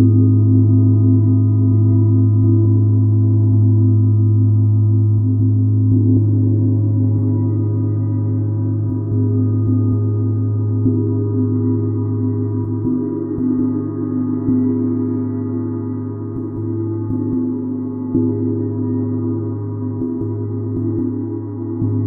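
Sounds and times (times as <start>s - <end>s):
deep metallic drone: 0.0s - 22.0s.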